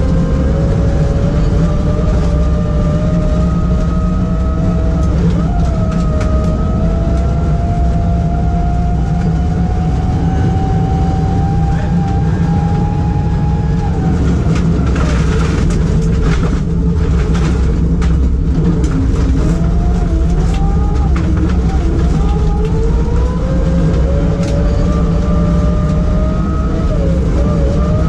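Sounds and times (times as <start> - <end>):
gravel rattling against underside: 0.0 - 28.0
rally car engine from cabin: 0.0 - 28.0.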